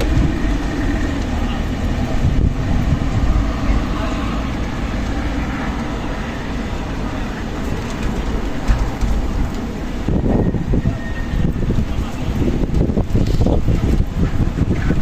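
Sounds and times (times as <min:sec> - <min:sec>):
strong gusting wind: 0:00.0 - 0:15.0
wind buffeting microphone: 0:00.0 - 0:15.0.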